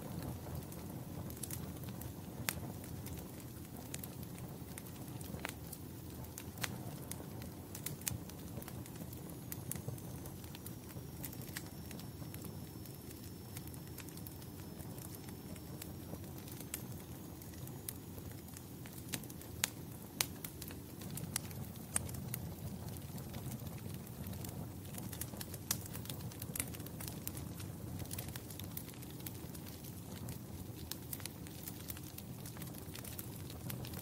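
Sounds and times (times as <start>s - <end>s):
fire pops and snaps: 0.0s - 34.0s
wood fire crackling: 0.0s - 34.0s.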